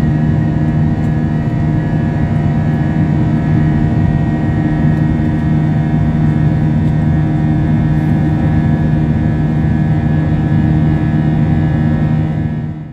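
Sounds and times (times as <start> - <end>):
jet engines droning in cabin: 0.0 - 12.9.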